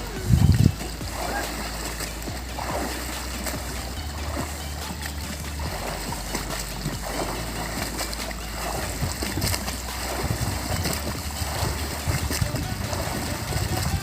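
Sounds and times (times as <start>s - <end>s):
water splashing from swimming: 0.0s - 14.0s
wind rumbling on microphone: 0.0s - 14.0s.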